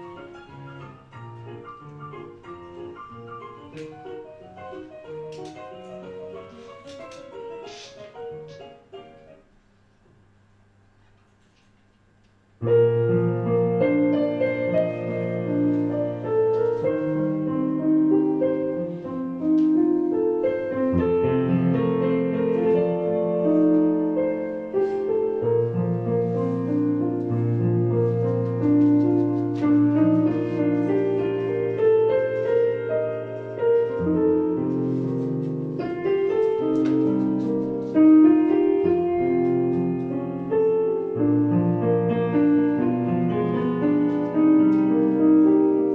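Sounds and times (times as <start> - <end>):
slow piano melody: 0.0 - 10.8, 12.5 - 45.9.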